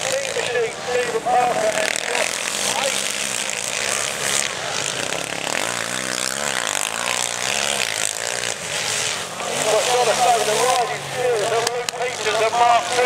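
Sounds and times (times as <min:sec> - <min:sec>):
motocross engines revving: 0:00.0 - 0:13.0.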